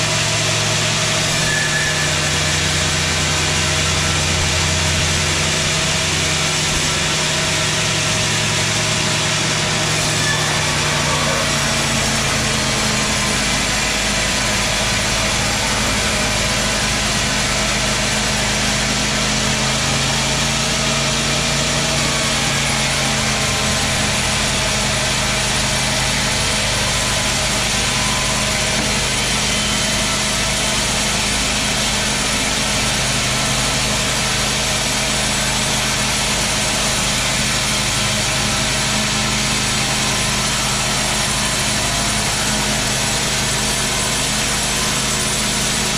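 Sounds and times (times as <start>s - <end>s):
sawmill saw whining: 0.0s - 45.9s.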